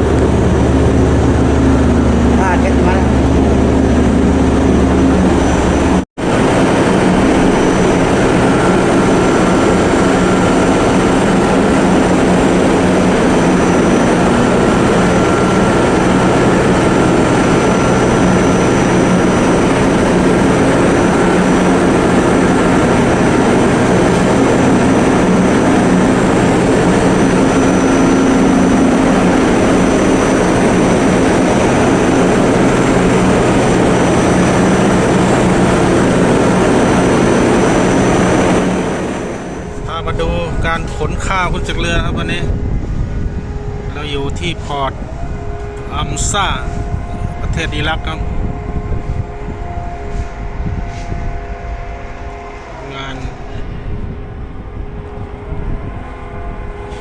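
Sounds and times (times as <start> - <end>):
loud machinery drone: 0.0 - 57.0.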